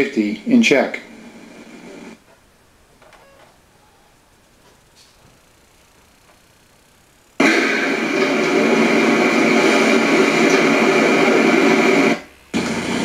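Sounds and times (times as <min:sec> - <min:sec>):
constant whine: 0:00.0 - 0:13.0.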